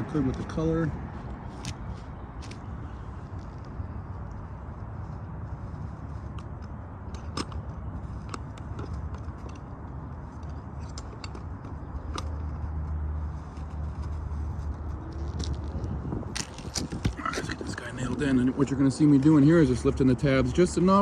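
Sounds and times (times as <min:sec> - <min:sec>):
steady low rumble: 0:00.0 - 0:20.8.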